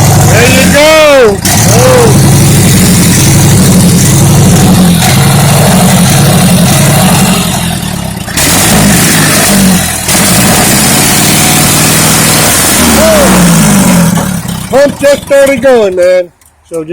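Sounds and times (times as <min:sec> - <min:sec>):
engine running steadily: 0:00.0 - 0:16.9.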